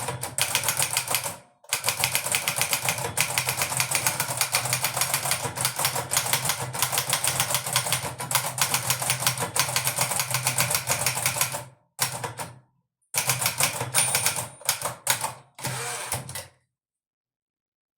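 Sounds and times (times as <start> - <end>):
typewriter keys typing fast: 0.0 - 12.4, 13.2 - 15.4.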